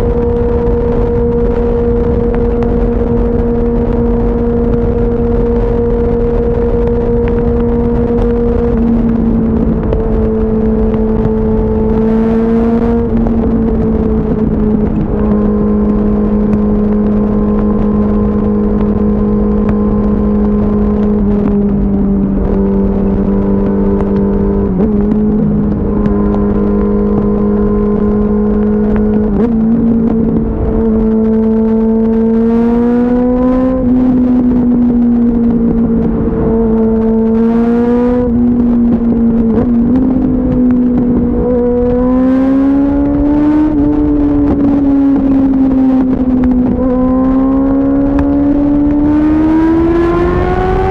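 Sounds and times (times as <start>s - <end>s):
motorcycle engine cruising: 0.0s - 50.9s
wind noise: 0.0s - 50.9s.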